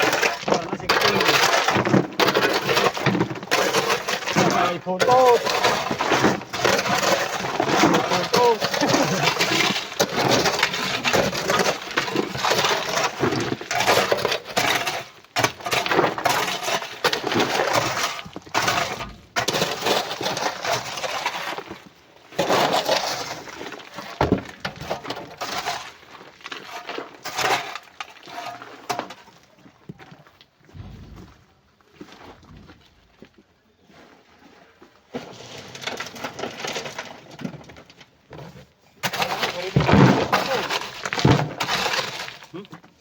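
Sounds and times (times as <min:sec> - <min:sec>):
stones clattering and crunching: 0:00.0 - 0:31.4, 0:35.0 - 0:43.0.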